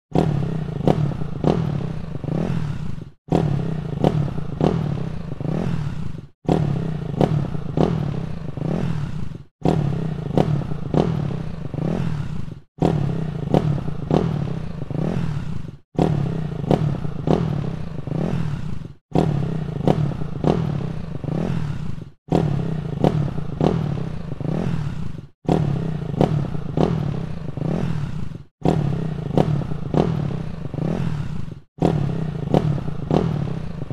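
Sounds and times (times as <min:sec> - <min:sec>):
dirt bike exhaust revving: 0:00.1 - 0:33.9.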